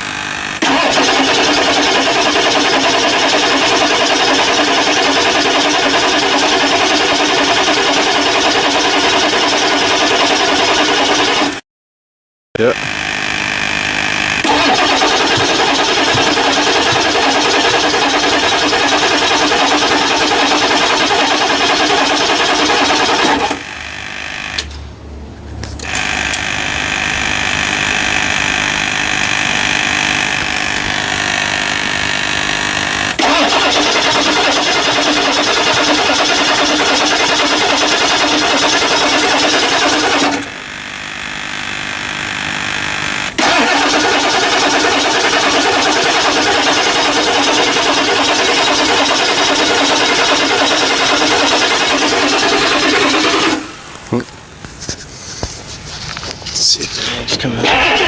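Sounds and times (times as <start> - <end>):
starter cranking diesel engine: 0.0 - 11.6, 12.6 - 25.0, 25.6 - 58.0.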